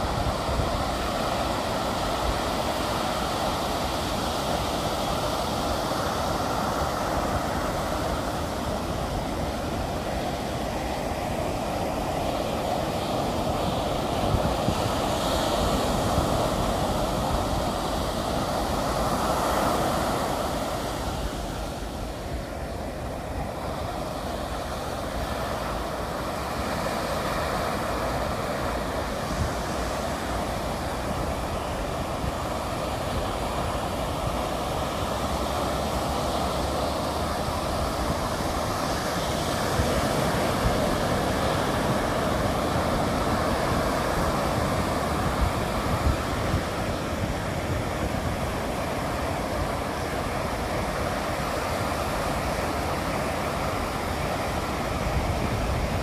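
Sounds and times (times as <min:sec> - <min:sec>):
waves washing up a beach: 0:00.0 - 0:56.0.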